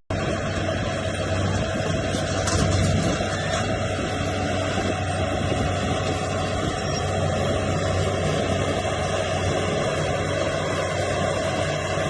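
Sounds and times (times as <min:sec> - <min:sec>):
heavy machine engine drone: 0:00.1 - 0:12.0.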